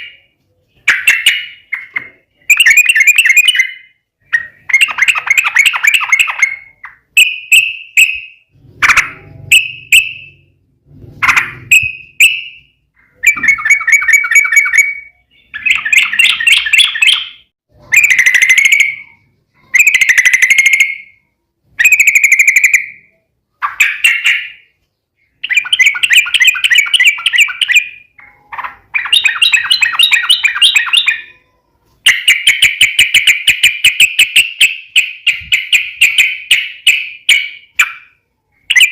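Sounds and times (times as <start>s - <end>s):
bird singing chattering trills: 0.0s - 10.5s, 11.2s - 38.9s.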